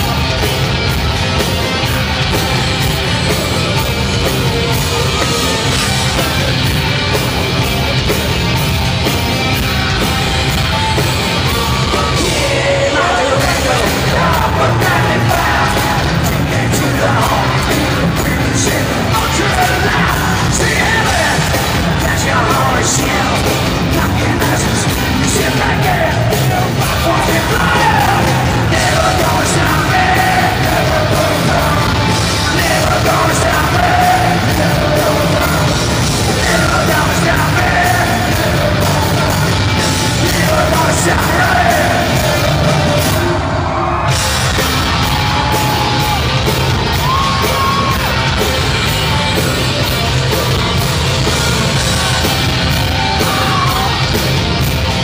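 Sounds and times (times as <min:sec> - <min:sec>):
live heavy metal band: 0:00.0 - 0:55.0
singer shouting vocals: 0:09.8 - 0:54.2.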